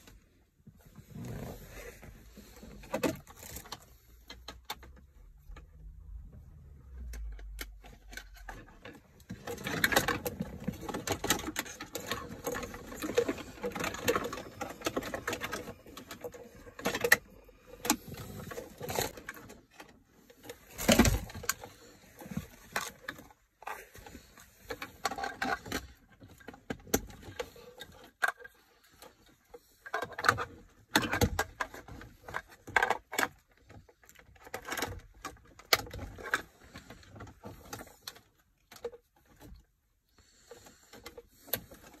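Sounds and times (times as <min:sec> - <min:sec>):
plastic trim rustling and scraping: 0:00.0 - 0:06.4, 0:07.0 - 0:42.0.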